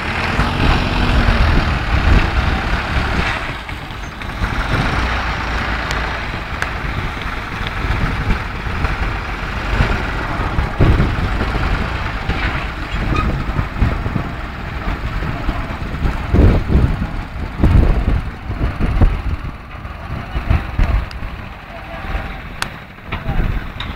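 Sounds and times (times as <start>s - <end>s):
loader bucket digging gravel: 0.0s - 23.9s
tractor diesel engine under load: 0.0s - 23.9s.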